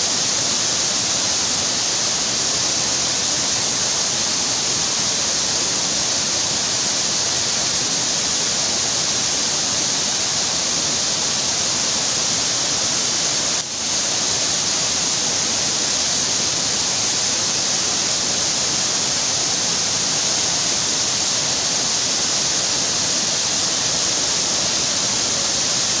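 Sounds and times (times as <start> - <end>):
rushing runoff water: 0.0 - 26.0
waterfall pouring down rocks: 0.0 - 26.0.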